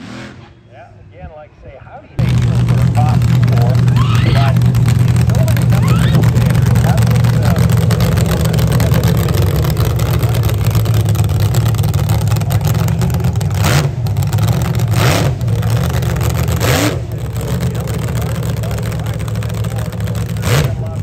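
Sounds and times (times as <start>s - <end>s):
jet engine rumbling: 0.0s - 21.0s.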